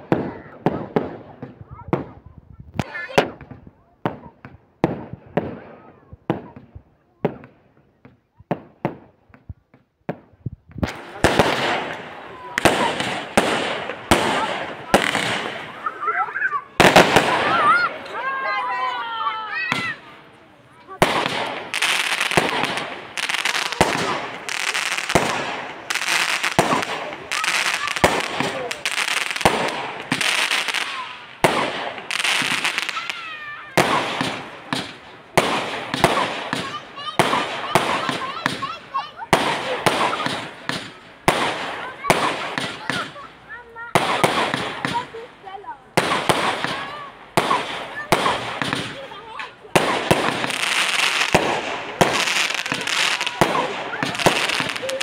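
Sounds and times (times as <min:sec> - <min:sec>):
dense fireworks crackling: 0:00.0 - 0:55.0
fireworks bangs: 0:00.0 - 0:55.0.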